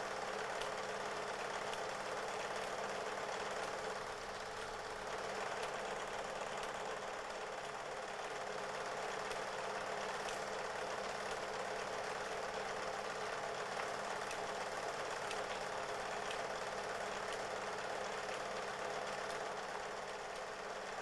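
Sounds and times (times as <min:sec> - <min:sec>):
film projector whirring: 0:00.0 - 0:21.0.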